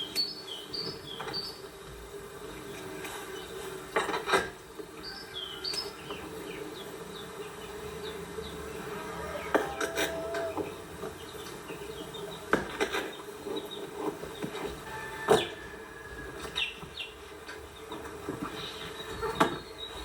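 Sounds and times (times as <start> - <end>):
insect buzzing: 0.0 - 20.0.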